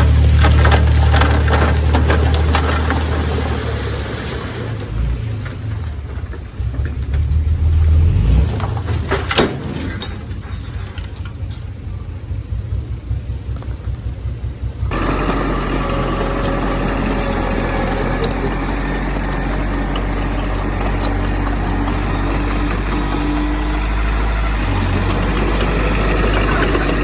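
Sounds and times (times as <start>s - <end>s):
diesel engine idling: 0.0s - 8.3s, 10.4s - 27.0s
engine running steadily: 0.0s - 27.0s.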